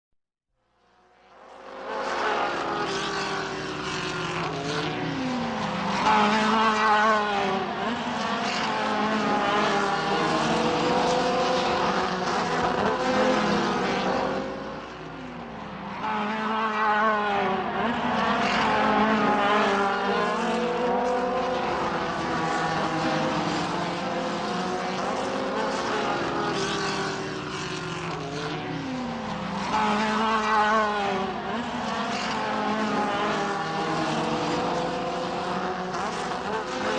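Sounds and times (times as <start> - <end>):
race cars passing: 0.9 - 36.9.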